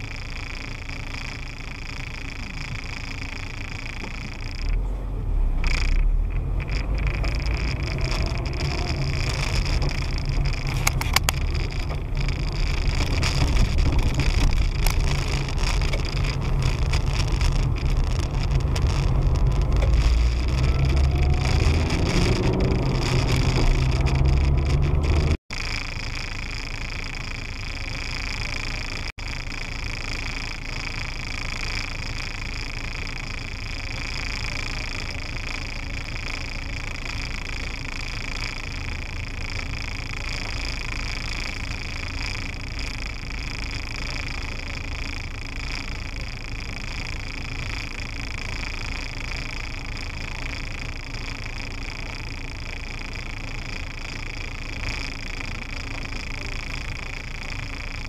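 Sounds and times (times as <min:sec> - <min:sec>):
car engine idling rumble: 0:00.0 - 0:58.0
high-pitched hum: 0:00.0 - 0:58.0.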